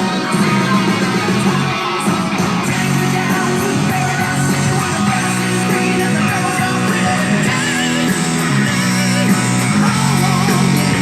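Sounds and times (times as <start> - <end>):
rock music with guitar from speakers: 0.0 - 11.0.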